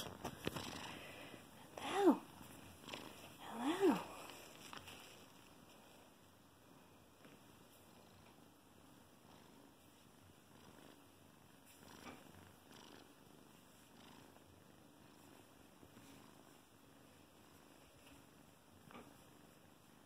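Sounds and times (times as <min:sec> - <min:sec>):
kitten purring: 0:00.0 - 0:20.0.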